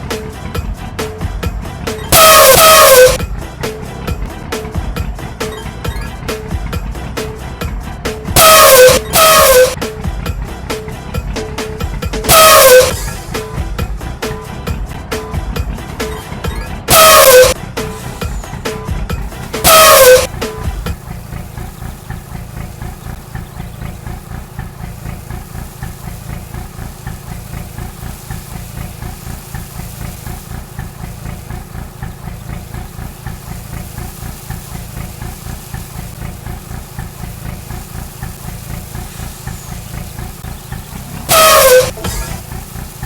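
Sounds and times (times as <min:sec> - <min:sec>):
vehicle engine idling: 0:00.0 - 0:43.0
vehicle reversing signal: 0:00.0 - 0:43.0.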